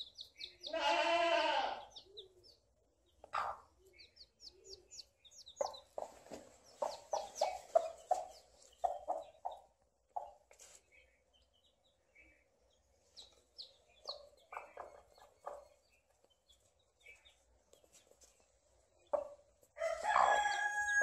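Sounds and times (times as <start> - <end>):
chicks peeping: 0.0 - 1.2, 1.8 - 21.0.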